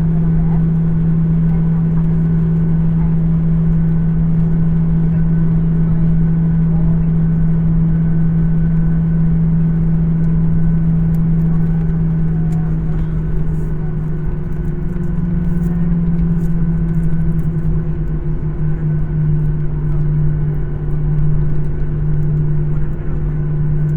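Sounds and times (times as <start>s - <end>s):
jet engine cabin hum: 0.0s - 23.9s.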